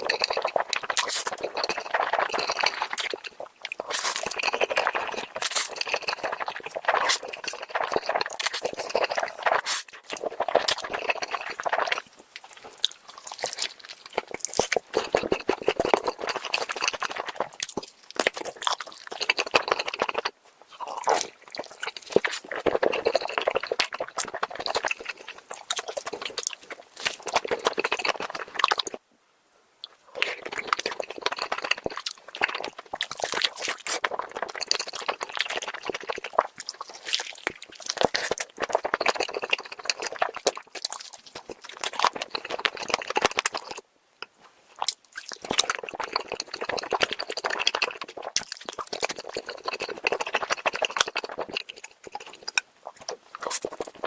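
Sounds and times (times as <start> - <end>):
wet chewing and biting: 0.0 - 29.0, 29.8 - 54.0.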